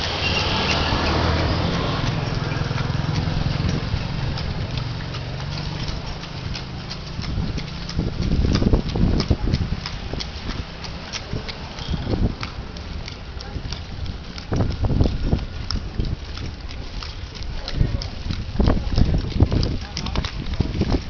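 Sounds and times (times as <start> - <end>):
horse hooves clip-clopping on street: 0.0 - 21.0
low motor engine hum: 0.0 - 21.0.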